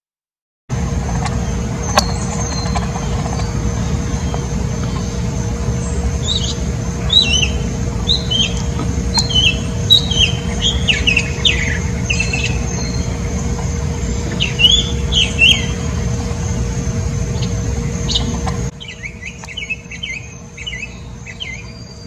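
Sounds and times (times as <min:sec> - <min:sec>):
small songbirds chirping: 0:00.7 - 0:22.0
steady low rumble: 0:00.7 - 0:22.0.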